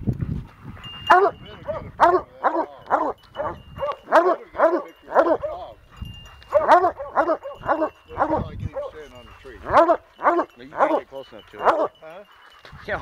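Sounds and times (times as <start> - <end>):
hounds barking: 1.0 - 12.7.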